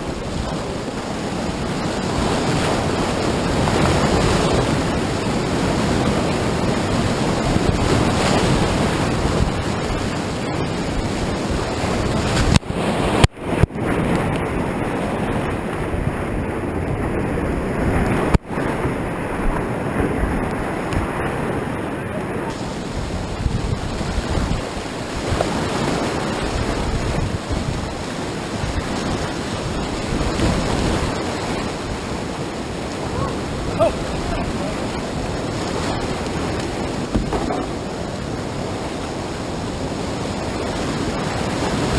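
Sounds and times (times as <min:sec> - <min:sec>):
river rapid rushing: 0:00.0 - 0:41.9
wind buffeting microphone: 0:00.0 - 0:41.9.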